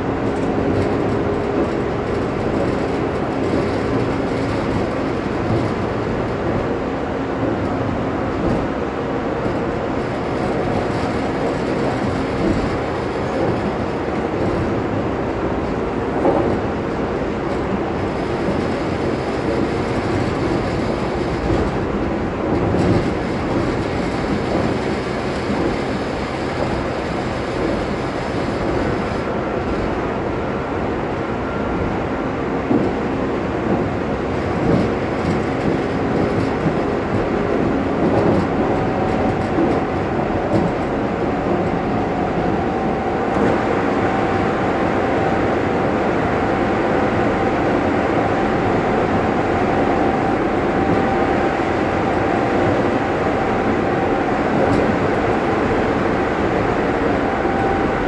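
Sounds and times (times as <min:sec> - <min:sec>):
train running noise: 0:00.0 - 0:58.0.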